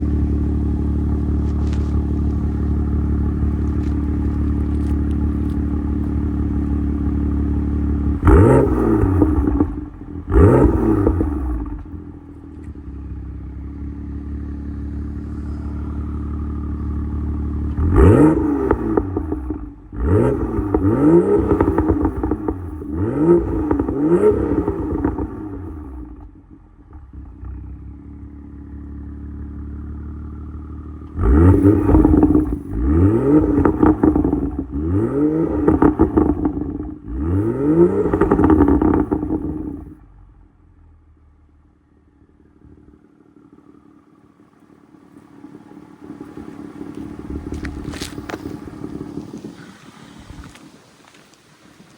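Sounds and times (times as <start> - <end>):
car engine revving: 0.0 - 40.5, 41.8 - 51.2
car engine idling: 0.0 - 51.9.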